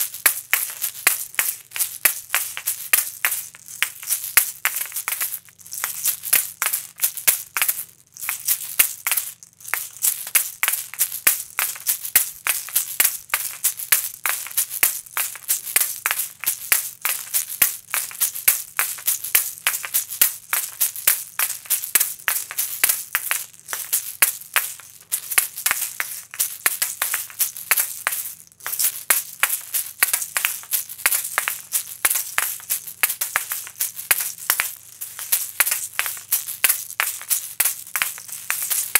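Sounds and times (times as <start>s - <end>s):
shakers rattling and clacking: 0.0s - 38.9s.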